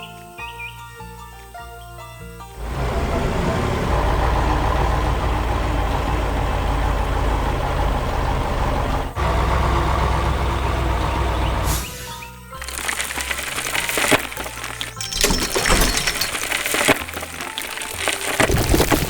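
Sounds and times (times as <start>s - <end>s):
excavator engine rumbling: 2.5s - 19.0s.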